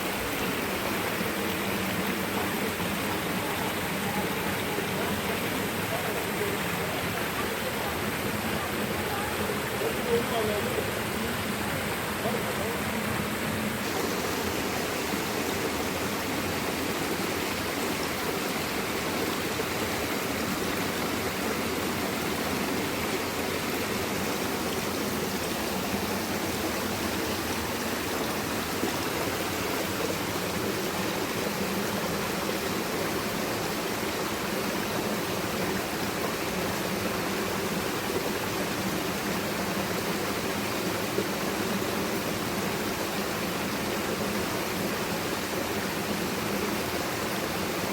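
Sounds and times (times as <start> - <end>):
running water: 0.0 - 47.9.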